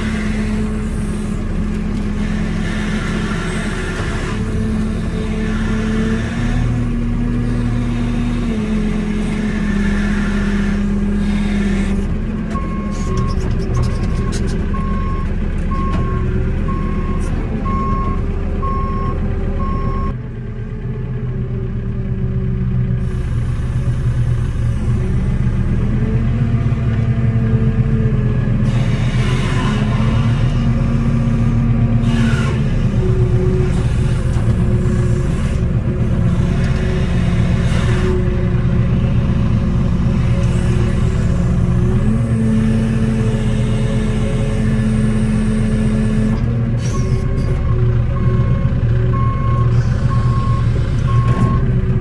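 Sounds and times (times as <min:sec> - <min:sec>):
diesel engine revving: 0:00.0 - 0:52.0.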